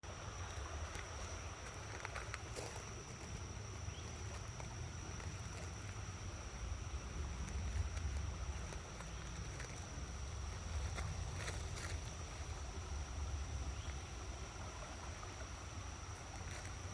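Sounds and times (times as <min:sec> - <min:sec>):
high-pitched whine: 0:00.1 - 0:16.9.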